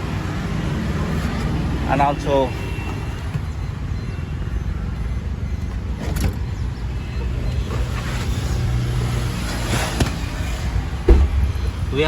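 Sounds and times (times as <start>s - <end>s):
low rumble of engine or traffic: 0.0s - 12.0s.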